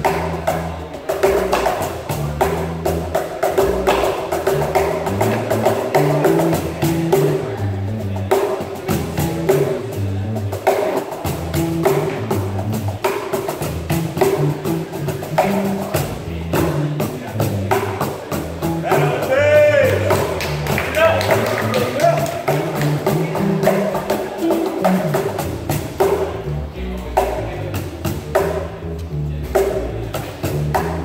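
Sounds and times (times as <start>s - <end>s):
cajons slapped in fast groove: 0.0s - 26.5s, 27.2s - 28.7s, 29.5s - 31.0s
electric bass guitar: 0.0s - 31.0s.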